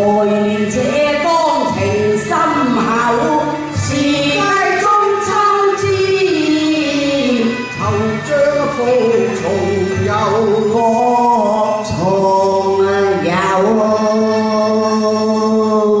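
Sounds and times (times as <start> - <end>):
musical accompaniment: 0.0 - 16.0
opera duet singing: 0.0 - 16.0.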